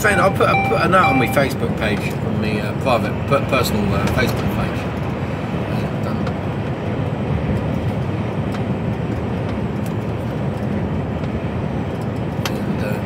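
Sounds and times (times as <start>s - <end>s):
lorry engine and road rumble: 0.0s - 13.0s.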